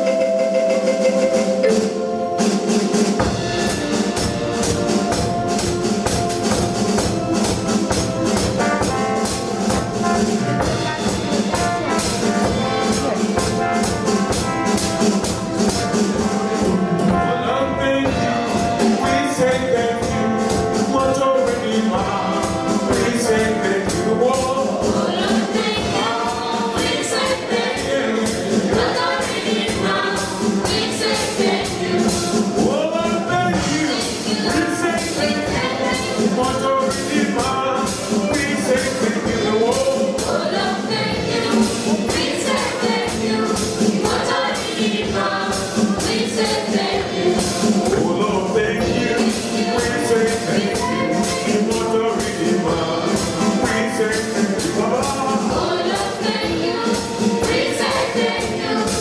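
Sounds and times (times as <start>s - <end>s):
children's choir singing: 0.0s - 59.0s
gospel band playing: 0.0s - 59.0s
drum and tambourine beat: 1.6s - 59.0s.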